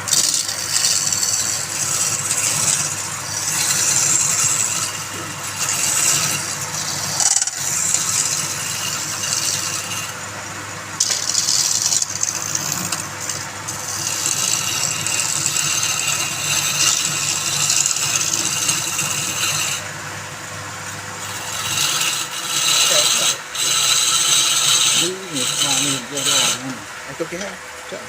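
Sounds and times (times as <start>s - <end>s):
lathe motor hum: 0.0s - 28.0s
tool scraping spinning wood: 0.0s - 28.0s.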